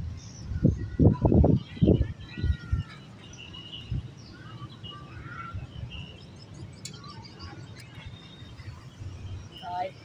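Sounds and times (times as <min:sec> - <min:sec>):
small birds chirping: 0:00.1 - 0:10.0.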